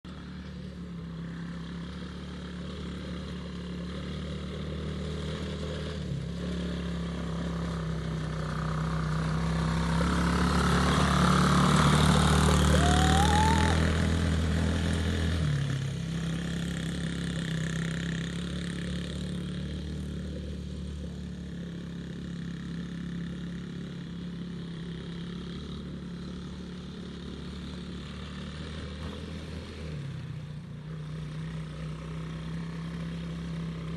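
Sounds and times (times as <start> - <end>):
small vehicle engine running: 0.0 - 33.9.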